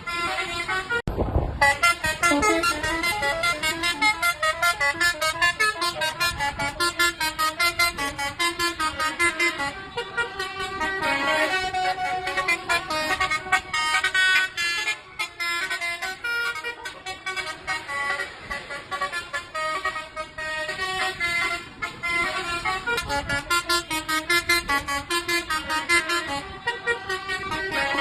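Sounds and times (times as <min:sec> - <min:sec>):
musical air horns tootling: 0:00.0 - 0:28.0.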